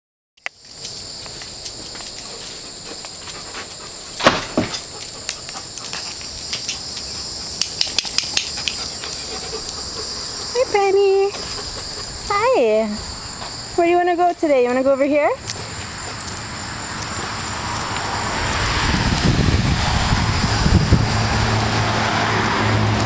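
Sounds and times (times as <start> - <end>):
high-pitched insect chorus: 0.4 - 22.6.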